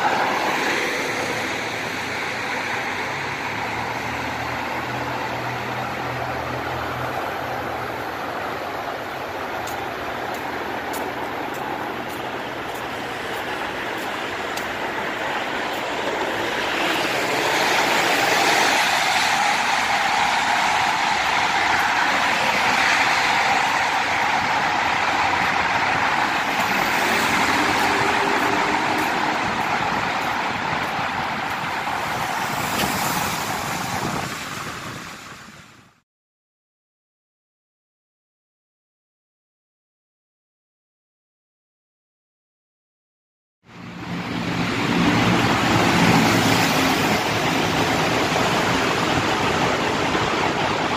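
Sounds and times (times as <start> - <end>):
traffic echoing in tunnel: 0.0 - 36.0, 43.6 - 50.9
vehicle passing through tunnel: 0.0 - 36.0, 43.7 - 50.9.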